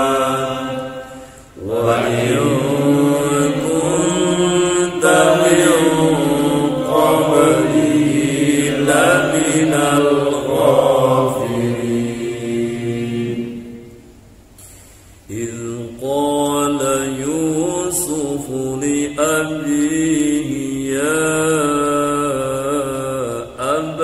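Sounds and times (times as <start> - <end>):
man chanting recitation: 0.0 - 13.6, 15.3 - 24.0.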